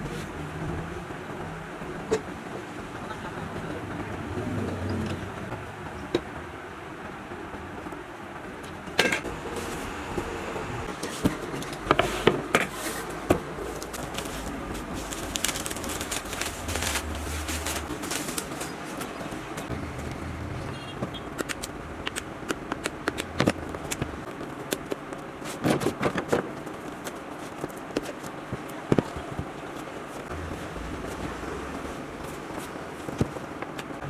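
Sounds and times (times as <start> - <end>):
steady background noise: 0.0 - 34.0.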